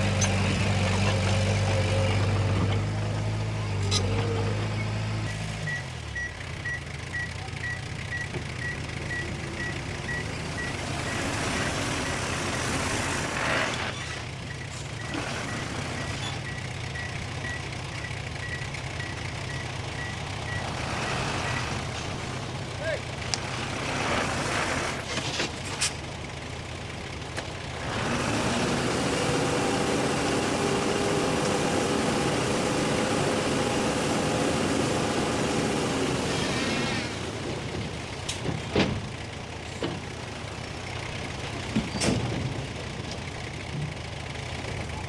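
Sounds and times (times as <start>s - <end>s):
heavy diesel machinery running: 0.0s - 45.0s.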